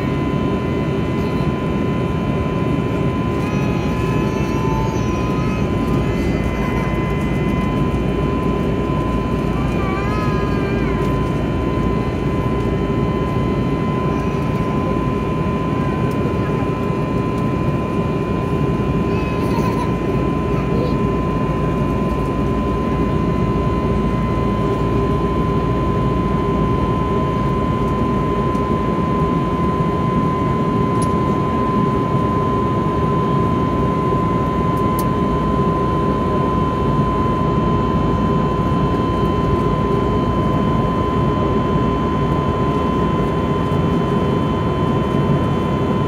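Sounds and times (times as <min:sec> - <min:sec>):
jet engine tone and hum: 0:00.0 - 0:46.0.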